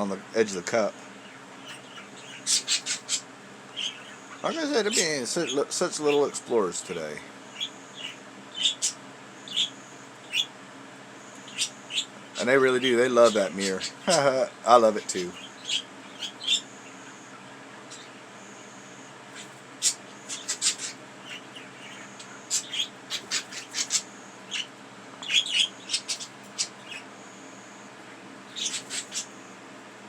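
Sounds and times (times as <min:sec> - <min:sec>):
budgerigars chirping: 0:00.6 - 0:10.6, 0:11.2 - 0:14.2, 0:14.8 - 0:18.3, 0:19.3 - 0:27.1, 0:28.0 - 0:29.4.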